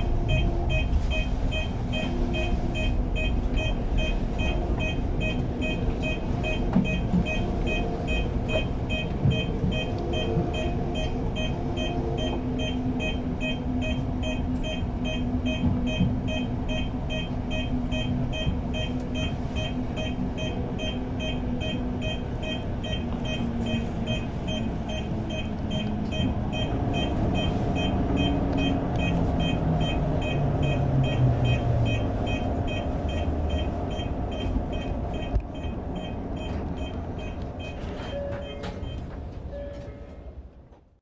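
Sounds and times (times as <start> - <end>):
high repeating beep: 0.3 - 39.0.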